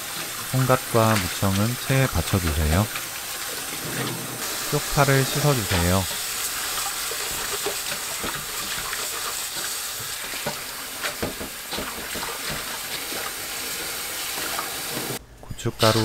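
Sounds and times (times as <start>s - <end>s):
tap water running into bowl: 0.0s - 15.2s.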